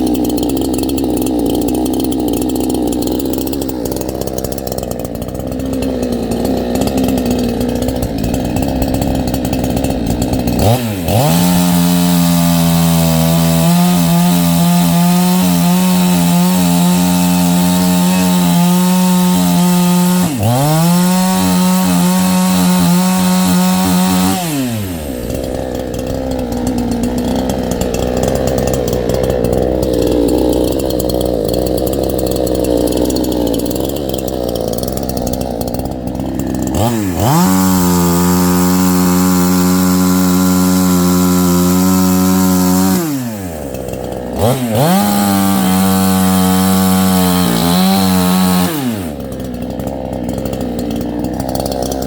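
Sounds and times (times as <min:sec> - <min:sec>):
chainsaw idling and revving: 0:00.0 - 0:52.0.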